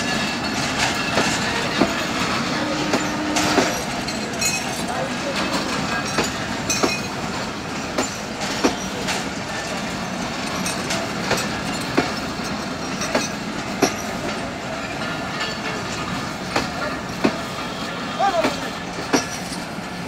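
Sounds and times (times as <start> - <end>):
train wheels rumbling on rail: 0.0 - 20.0
wheels clacking over rail joints: 0.0 - 20.0.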